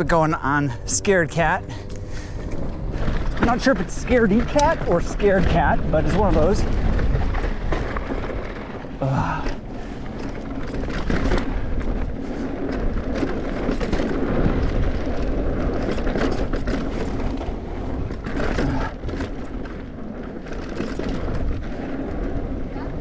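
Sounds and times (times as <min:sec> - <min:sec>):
bike tyres rumbling on dirt: 0:00.0 - 0:23.0
bike chain and frame rattling: 0:01.4 - 0:23.0.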